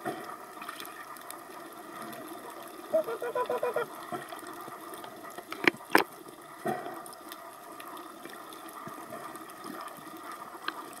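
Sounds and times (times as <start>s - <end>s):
muffled underwater hiss: 0.0s - 11.0s.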